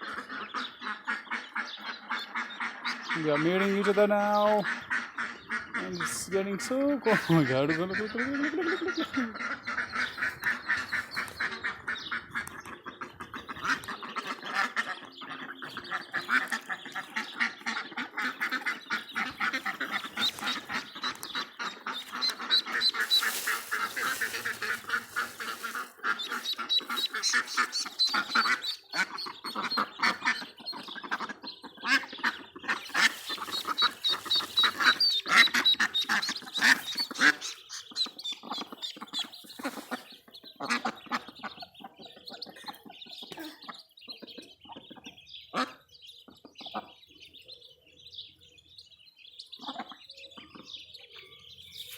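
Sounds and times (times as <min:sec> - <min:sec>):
ducks quacking: 0:00.0 - 0:47.2, 0:49.6 - 0:50.8
ducklings peeping: 0:00.0 - 0:51.9.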